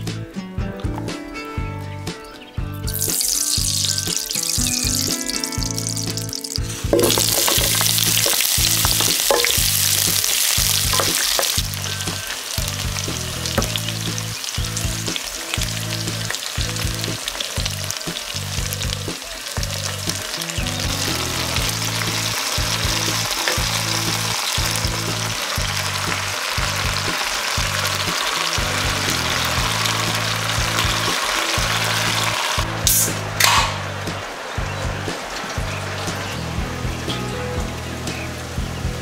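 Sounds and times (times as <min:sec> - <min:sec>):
vegetables sizzling in hot oil: 0:02.9 - 0:39.0.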